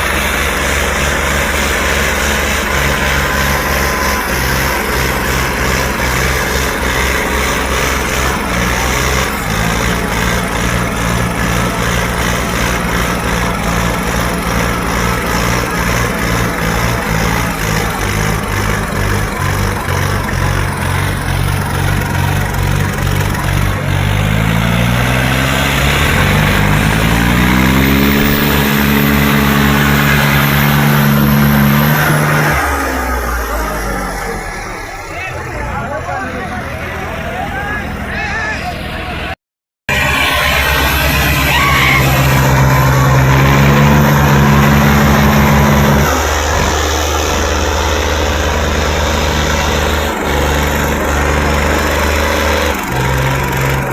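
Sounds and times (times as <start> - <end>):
tractor engine revving: 0.0 - 53.9.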